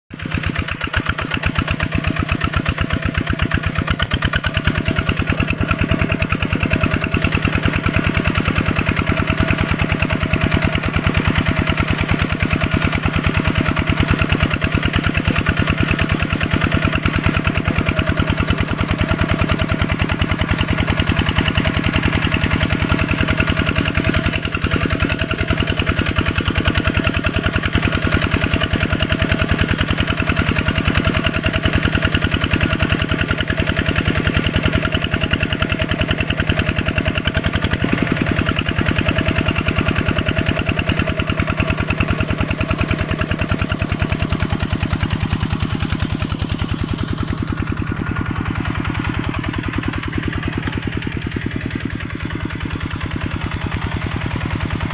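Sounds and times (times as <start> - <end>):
small tractor engine running: 0.1 - 54.9.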